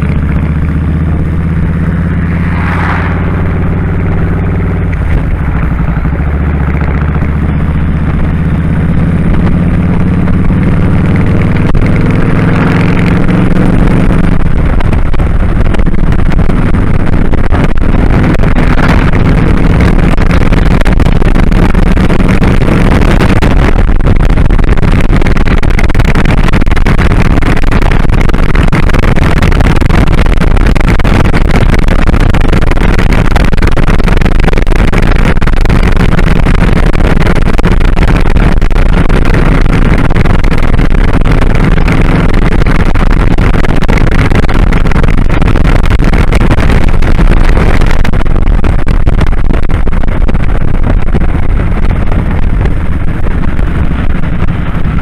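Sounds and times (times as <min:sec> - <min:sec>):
motorcycle engine running: 0:00.0 - 0:55.0
wind rushing on microphone: 0:00.0 - 0:55.0.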